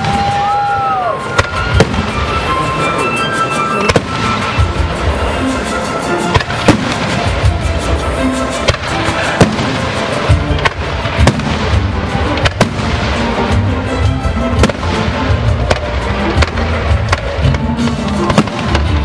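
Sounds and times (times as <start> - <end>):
music playing: 0.0 - 19.0.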